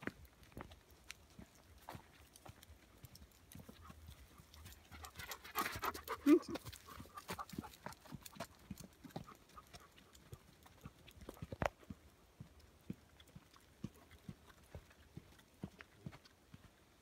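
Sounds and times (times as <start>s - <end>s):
footsteps on dirt path: 0.0s - 17.0s.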